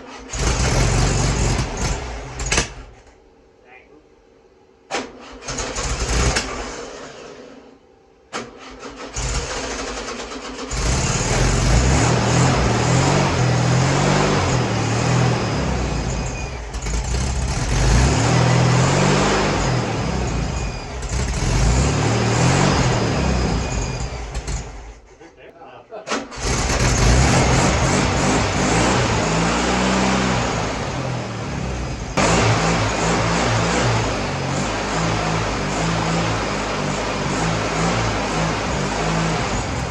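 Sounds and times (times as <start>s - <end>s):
car engine sputtering and revving: 0.0s - 3.2s, 5.0s - 7.6s, 8.6s - 25.2s, 26.1s - 39.9s.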